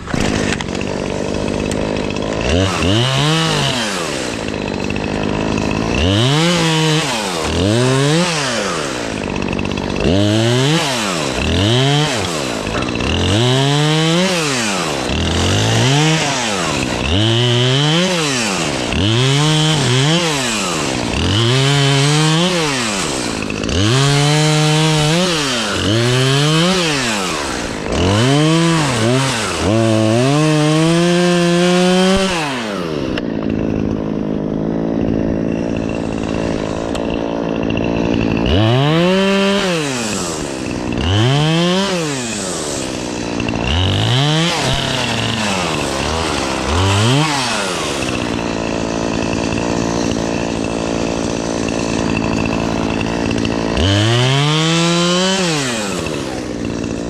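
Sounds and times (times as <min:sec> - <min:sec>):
chainsaw revving and cutting: 0:00.0 - 0:57.0.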